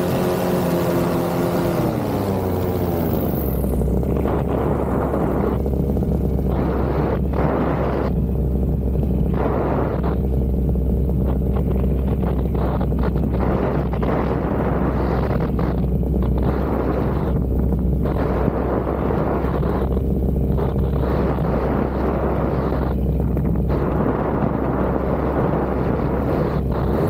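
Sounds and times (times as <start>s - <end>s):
paramotor engine and propeller: 0.0s - 27.0s
wind buffeting microphone: 0.0s - 27.0s.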